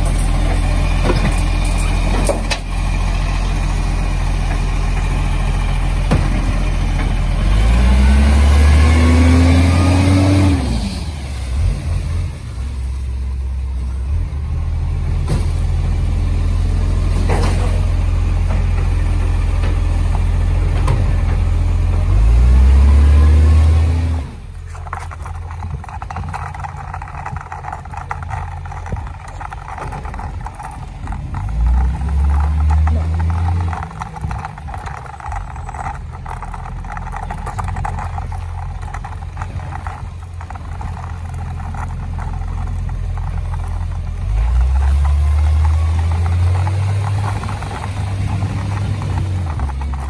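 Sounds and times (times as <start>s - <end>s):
garbage truck diesel engine revving: 0.0s - 13.4s, 14.1s - 50.0s.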